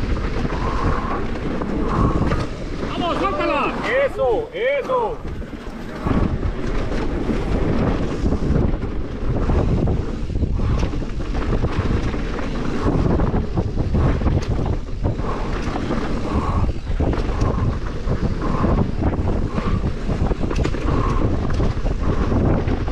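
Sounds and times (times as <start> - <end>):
bike knocks and rattles: 0.0 - 3.6, 4.6 - 22.9
bike tyres rumbling on dirt: 0.0 - 22.9
wind buffeting microphone: 0.0 - 22.9.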